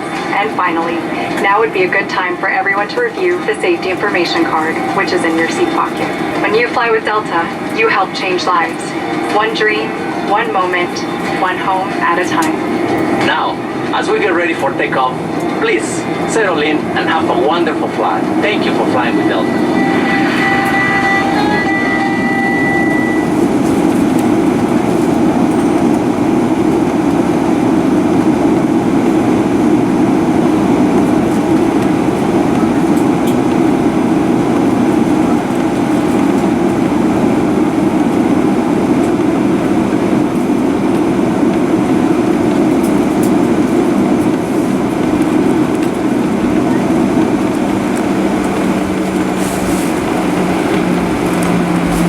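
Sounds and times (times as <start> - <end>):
aircraft engine rumble: 0.0 - 52.0.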